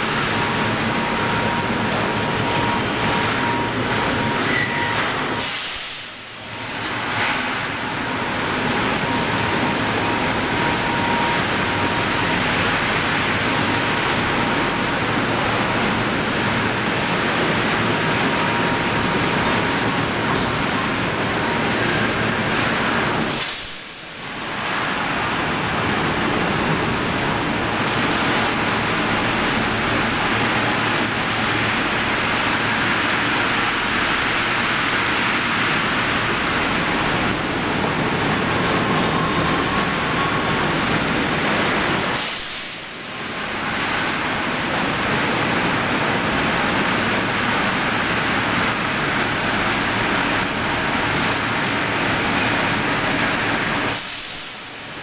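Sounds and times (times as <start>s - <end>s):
rolling mill machinery noise: 0.0s - 55.0s.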